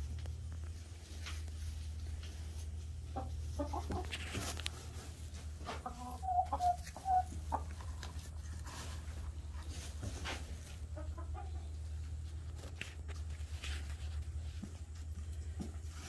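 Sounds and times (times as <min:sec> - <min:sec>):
hens clucking: 0:01.2 - 0:15.8.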